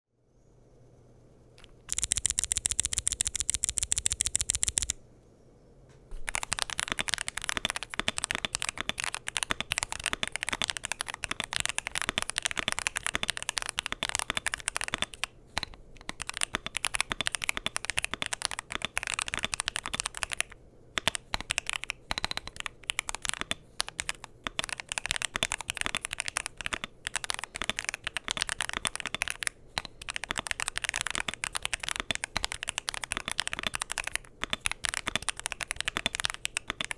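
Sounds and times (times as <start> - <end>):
evenly spaced rapid clicks: 1.6 - 5.0, 6.2 - 36.9
fast typing on mechanical keyboard: 1.6 - 5.0, 6.2 - 36.9.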